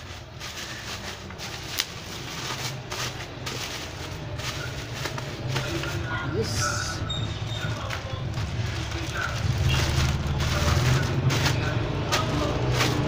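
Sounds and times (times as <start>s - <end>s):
plastic packaging rustling: 0.0s - 6.3s, 7.4s - 13.0s.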